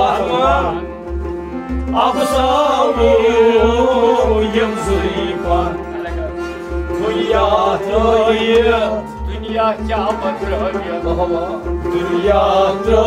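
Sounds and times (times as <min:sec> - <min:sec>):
held instrumental drone: 0:00.0 - 0:13.0
low drum beat: 0:00.0 - 0:13.0
man singing ornamented melody: 0:01.9 - 0:13.0.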